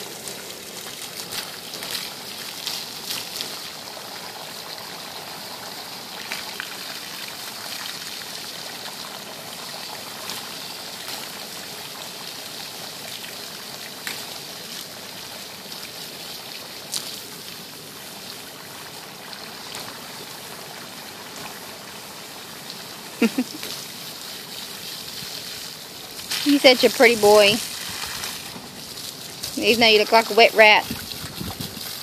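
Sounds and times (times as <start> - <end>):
hose spraying water: 0.0 - 32.0
water splashing onto ground: 0.0 - 32.0.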